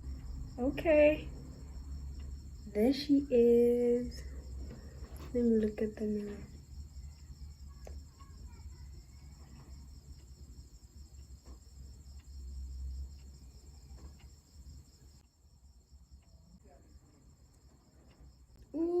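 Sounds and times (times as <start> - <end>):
crickets chirping: 0.0 - 19.0
faint clicks: 1.7 - 15.4, 16.0 - 19.0.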